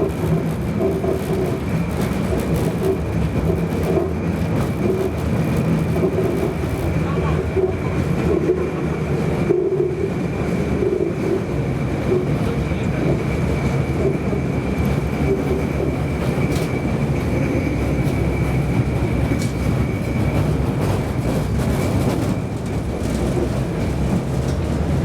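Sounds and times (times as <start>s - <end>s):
tram high whine: 0.0s - 25.0s
tram rumble: 0.0s - 25.0s.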